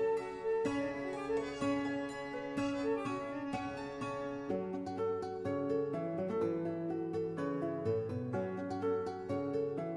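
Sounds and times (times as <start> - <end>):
instrumental background music: 0.0 - 9.9
plucked notes: 0.0 - 9.9.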